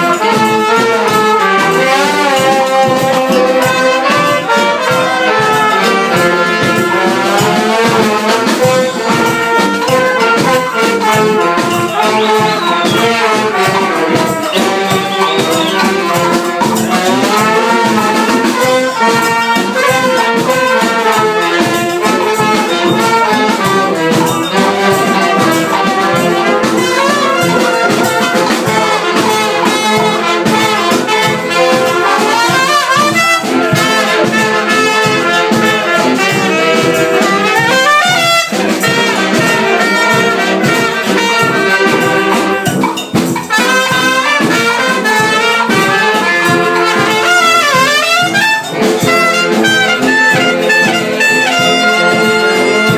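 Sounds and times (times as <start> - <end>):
brass band playing: 0.0 - 52.9
marching bass drum: 0.0 - 52.9.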